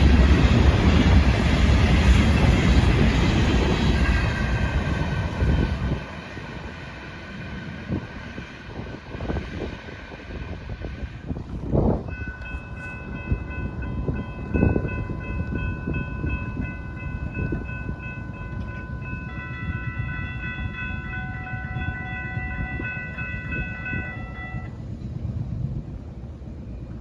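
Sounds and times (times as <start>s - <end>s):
train cars rumbling: 0.0s - 27.0s.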